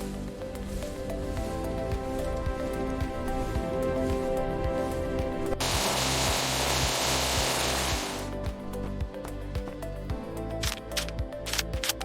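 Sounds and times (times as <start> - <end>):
music of sustained tones: 0.0 - 12.0.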